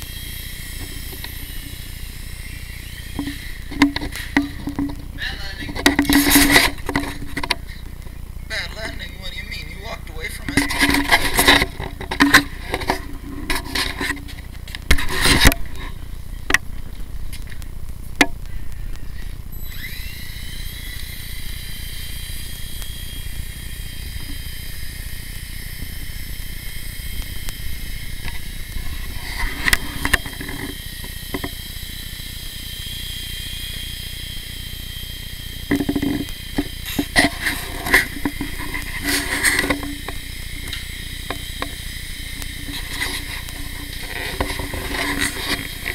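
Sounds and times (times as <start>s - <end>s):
toy helicopter motors whining: 0.0s - 17.8s, 18.4s - 45.9s.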